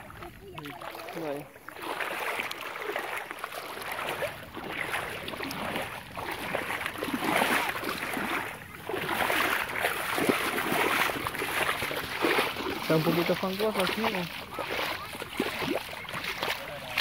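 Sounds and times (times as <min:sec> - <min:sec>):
shallow water sloshing: 0:00.0 - 0:17.0.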